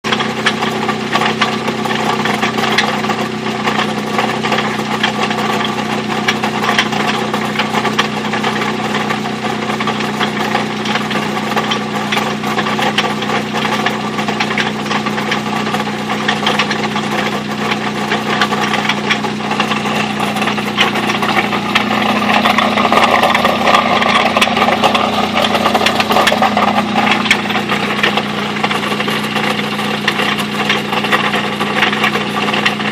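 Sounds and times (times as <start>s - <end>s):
engine idling with steady knock: 0.0s - 32.9s.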